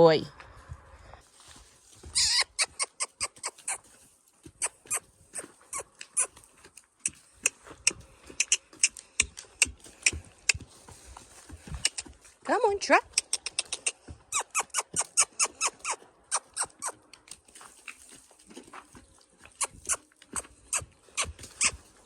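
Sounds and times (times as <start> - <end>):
horse hooves clip-clopping: 0.4 - 22.0.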